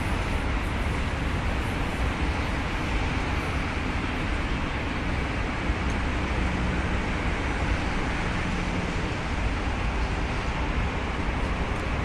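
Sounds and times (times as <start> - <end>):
electric train rumble and hiss: 0.0 - 12.0.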